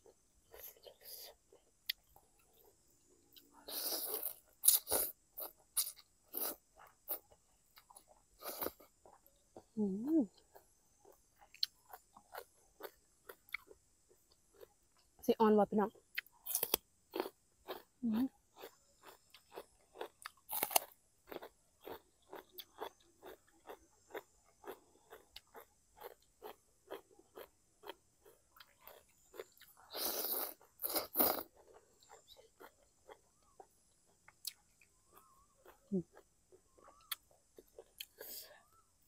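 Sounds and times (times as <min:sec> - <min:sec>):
crisp chewing crunches: 0:00.1 - 0:09.8, 0:10.4 - 0:15.1, 0:16.0 - 0:17.9, 0:18.5 - 0:38.9.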